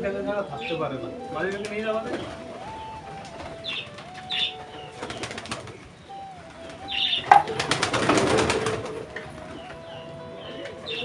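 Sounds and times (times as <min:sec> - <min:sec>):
pigeons cooing: 0:00.0 - 0:11.0
wings flapping: 0:00.0 - 0:11.0.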